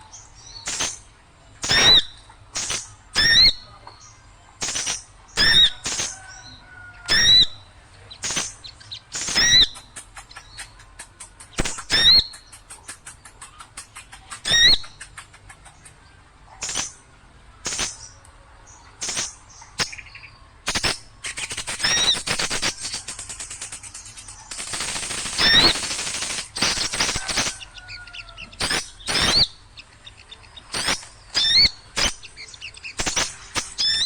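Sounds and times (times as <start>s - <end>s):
small birds calling: 0.0s - 34.0s
fast bird trill: 0.3s - 3.7s, 4.6s - 16.0s, 19.0s - 34.0s
quick ticking bird notes: 0.4s - 3.7s, 4.6s - 16.0s, 16.6s - 17.0s, 17.6s - 18.3s, 19.0s - 34.0s.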